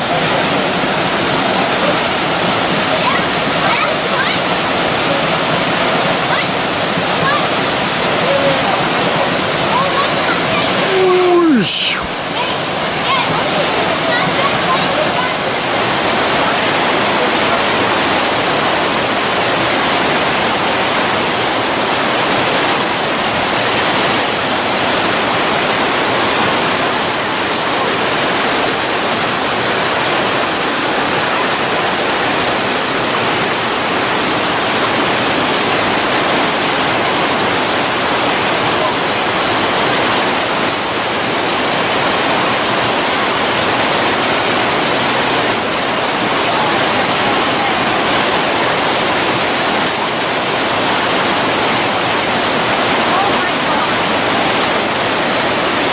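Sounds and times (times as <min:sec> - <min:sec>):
waterfall rushing over rocks: 0:00.0 - 0:55.9.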